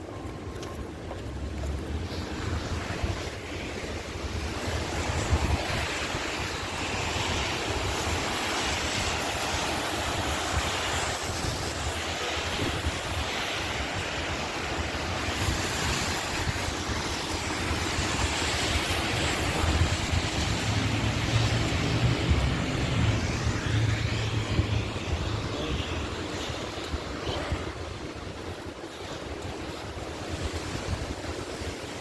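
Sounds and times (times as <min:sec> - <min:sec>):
wind buffeting microphone: 0:00.0 - 0:32.0
heavy rain pouring: 0:01.8 - 0:32.0.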